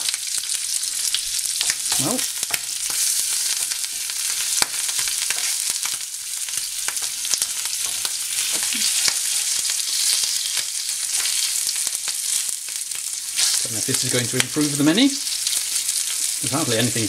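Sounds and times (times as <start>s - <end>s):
frying sizzle with pops: 0.0s - 17.0s.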